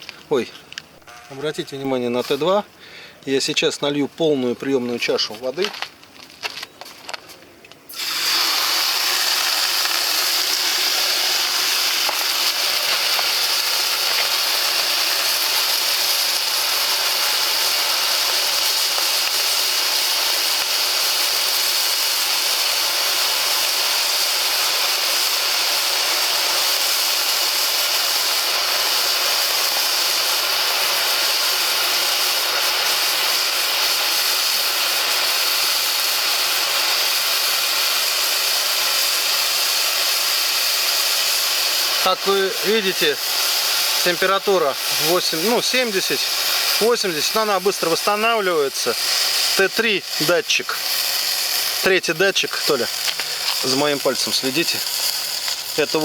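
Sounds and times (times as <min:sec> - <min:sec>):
water flashing into steam: 0:07.9 - 0:56.0.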